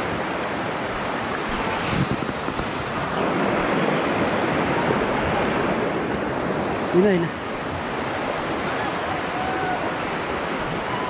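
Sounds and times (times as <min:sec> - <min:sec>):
fast-flowing river water: 0:00.0 - 0:11.0.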